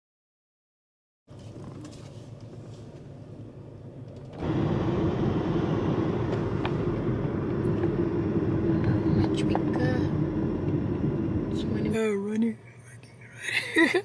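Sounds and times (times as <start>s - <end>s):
car engine and road rumble: 1.3s - 14.0s
steady hum: 2.2s - 14.0s.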